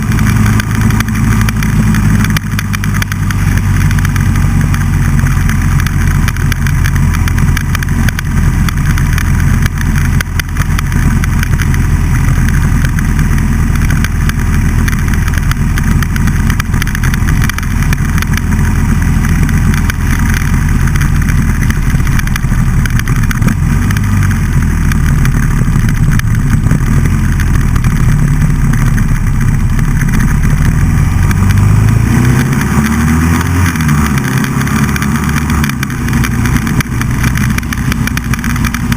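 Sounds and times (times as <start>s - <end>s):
motorcycle engine running: 0.0s - 38.9s
rushing wind noise: 0.0s - 38.9s.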